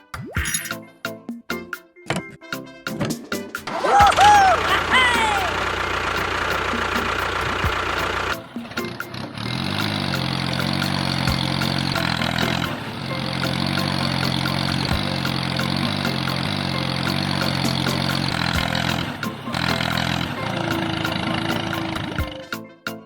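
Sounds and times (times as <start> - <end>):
engine starting and running: 3.7 - 22.5.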